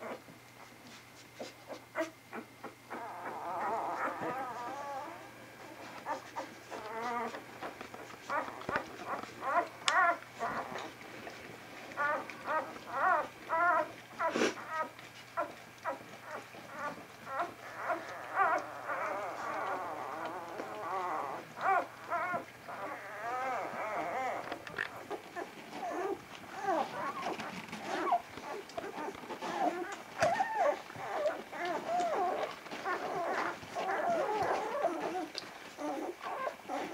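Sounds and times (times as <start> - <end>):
puppies squeaking and whimpering: 1.4 - 36.9.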